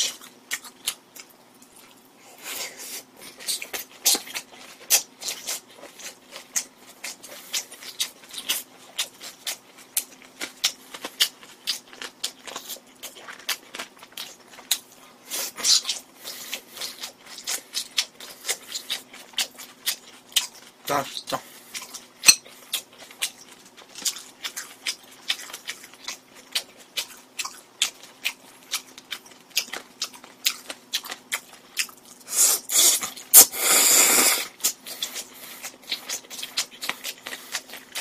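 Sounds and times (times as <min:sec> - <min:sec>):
wet crunchy chewing: 0:00.0 - 0:38.0.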